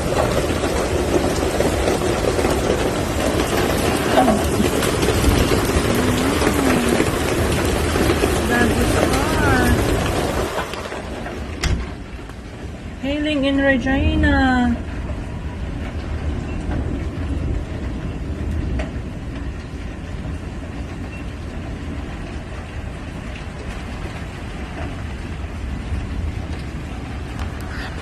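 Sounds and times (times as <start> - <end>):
hail and rain falling: 0.0 - 28.0.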